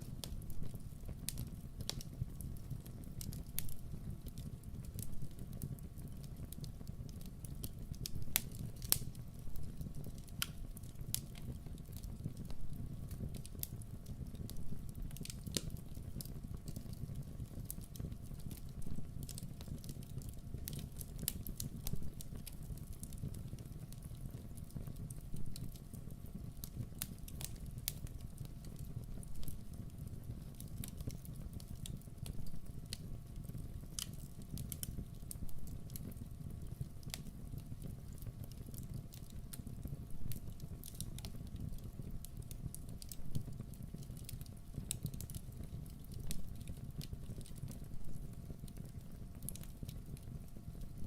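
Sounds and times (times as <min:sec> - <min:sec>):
campfire low rumble: 0:00.0 - 0:51.0
wood crackling and popping: 0:00.0 - 0:51.0.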